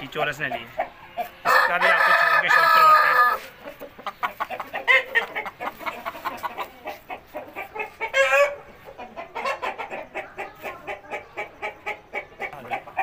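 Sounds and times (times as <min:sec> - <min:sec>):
chickens clucking: 0:00.0 - 0:13.0
chicken squawk: 0:00.2 - 0:13.0.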